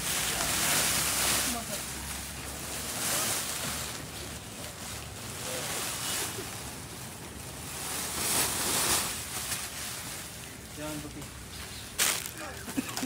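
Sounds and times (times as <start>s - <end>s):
rustling hiss: 0.0s - 13.0s.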